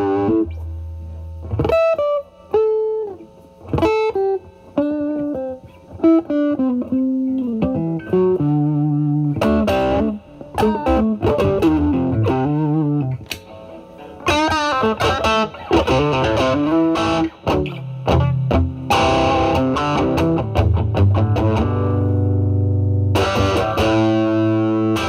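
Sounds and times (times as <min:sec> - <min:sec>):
overdriven electric guitar lead: 0:00.0 - 0:25.0.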